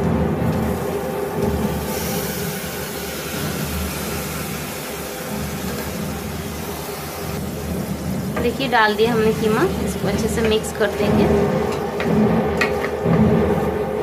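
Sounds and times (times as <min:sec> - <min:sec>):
meat sizzling in hot oil: 0:00.6 - 0:12.0.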